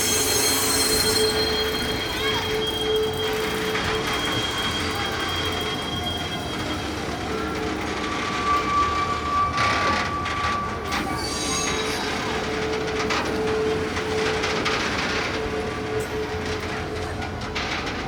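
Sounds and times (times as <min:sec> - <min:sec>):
train wheel squeal: 0:00.0 - 0:18.0
wheels clacking over rail joints: 0:00.0 - 0:18.0.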